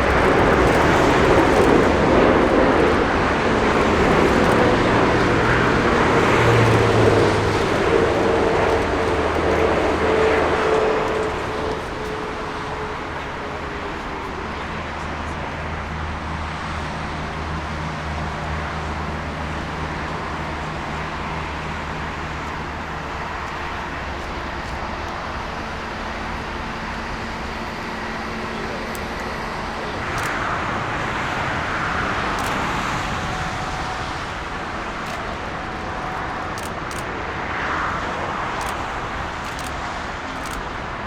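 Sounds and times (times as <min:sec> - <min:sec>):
airport noise: 0:00.0 - 0:41.0
jet engine whine: 0:00.0 - 0:41.0
jet engines rumbling: 0:00.0 - 0:41.0.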